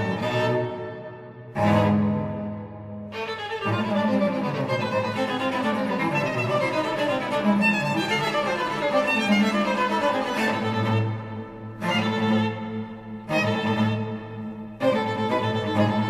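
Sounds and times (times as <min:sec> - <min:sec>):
orchestral music with violin: 0:00.0 - 0:16.0.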